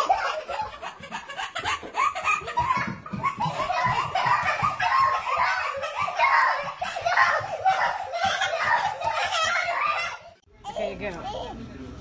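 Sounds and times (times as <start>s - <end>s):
toddler laughing: 0.0s - 11.6s.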